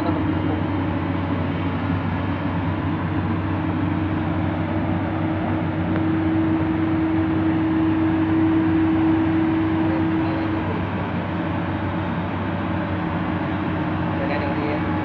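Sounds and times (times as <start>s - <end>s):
heavy diesel machinery running: 0.0s - 15.0s
steady whine: 0.0s - 15.0s.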